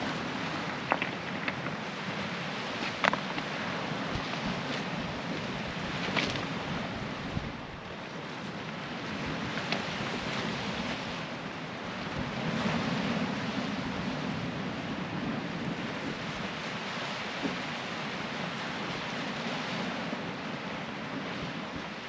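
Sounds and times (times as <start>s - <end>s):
waves washing over pebbles: 0.0s - 22.0s
wind buffeting microphone: 0.0s - 22.0s.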